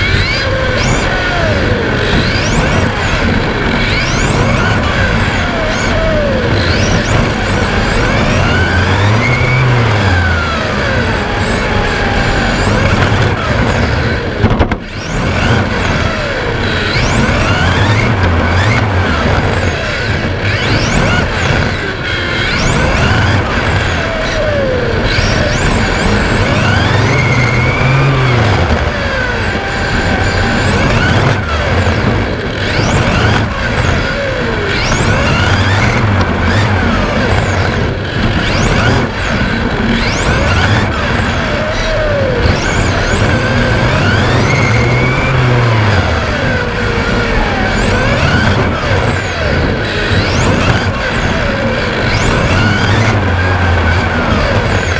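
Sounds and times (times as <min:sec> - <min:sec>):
electric motor whine: 0:00.0 - 0:54.9
steady rushing noise: 0:00.0 - 0:54.9.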